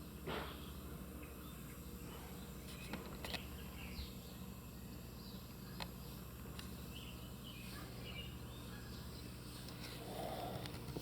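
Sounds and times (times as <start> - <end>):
steady low hum: 0.0 - 11.0
birds chirping: 0.6 - 10.9.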